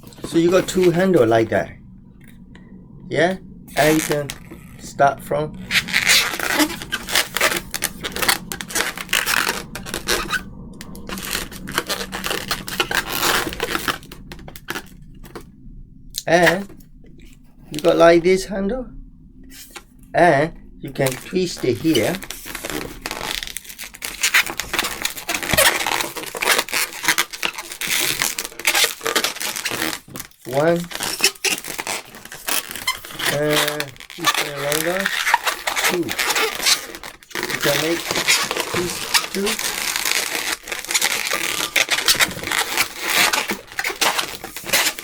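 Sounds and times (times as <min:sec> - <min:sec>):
balloon rubbing and squeaking: 0:00.0 - 0:02.4, 0:03.2 - 0:15.5, 0:16.2 - 0:18.4, 0:19.4 - 0:45.0.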